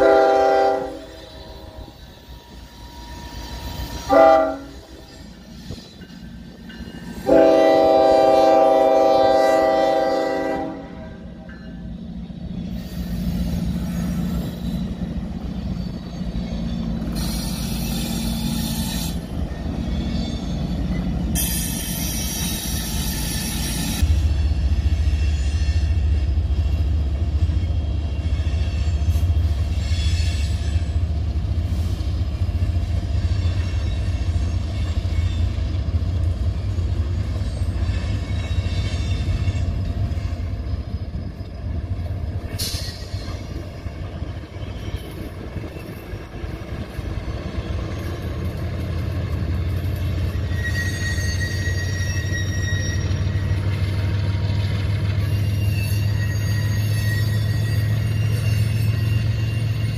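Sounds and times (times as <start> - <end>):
diesel locomotives rumbling: 0.0 - 59.9
freight train rumbling past: 0.0 - 59.9
high wheel squeal: 0.8 - 7.7, 11.6 - 59.9.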